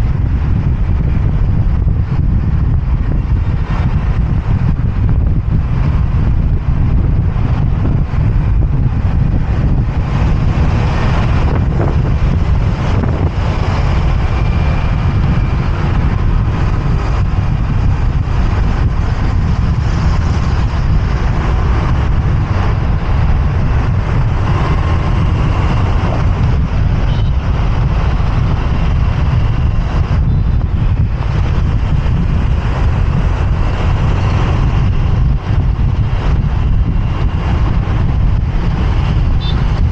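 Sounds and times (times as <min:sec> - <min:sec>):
city traffic: 0:00.0 - 0:39.9
wind buffeting microphone: 0:00.0 - 0:39.9.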